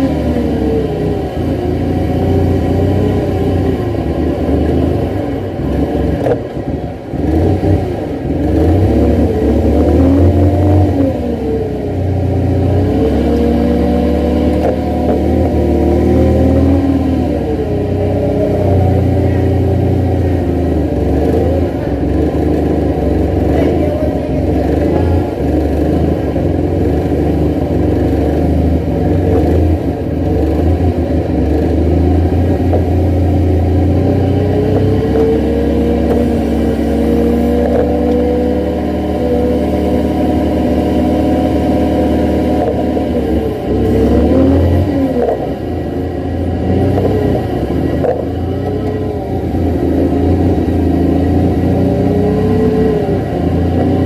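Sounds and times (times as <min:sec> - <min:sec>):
forklift engine revving: 0:00.0 - 0:54.0.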